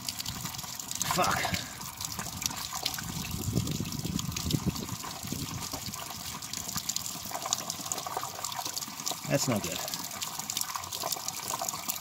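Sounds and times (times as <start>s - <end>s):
fuel gushing and splashing: 0.0s - 12.0s.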